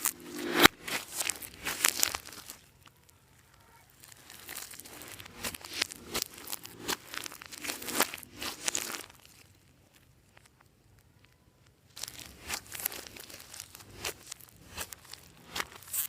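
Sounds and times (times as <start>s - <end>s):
sticky slime crackles and pops: 0.0s - 16.0s.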